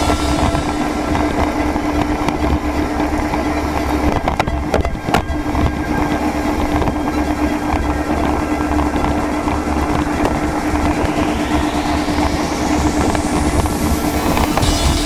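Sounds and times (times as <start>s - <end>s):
boat engine running: 0.0s - 15.0s
rush of wind and water: 0.0s - 15.0s.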